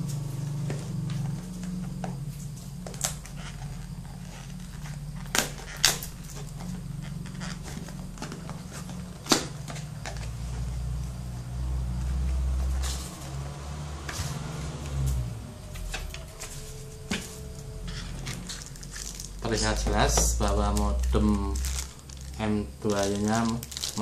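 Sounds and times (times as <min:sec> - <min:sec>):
low rumble of handling: 0:00.0 - 0:24.0
steady low hum: 0:00.0 - 0:24.0.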